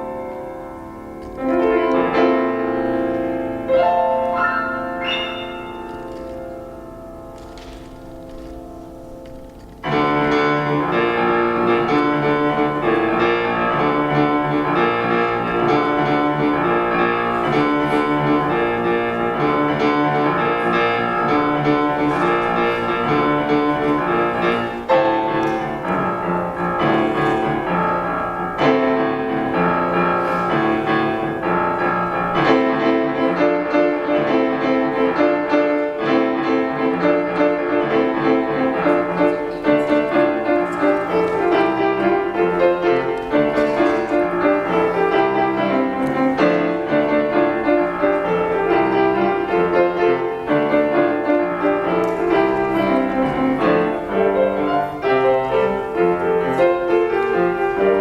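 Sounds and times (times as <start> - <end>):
grand piano playing fast: 0.0 - 58.0.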